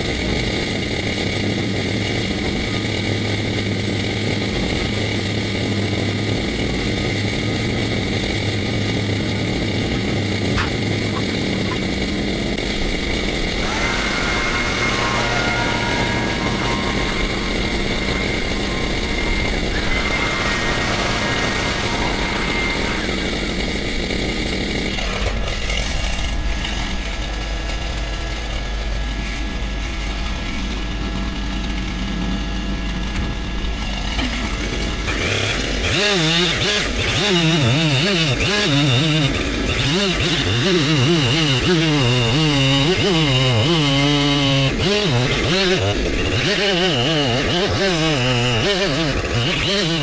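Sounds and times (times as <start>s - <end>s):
chainsaw running: 0.0s - 50.0s.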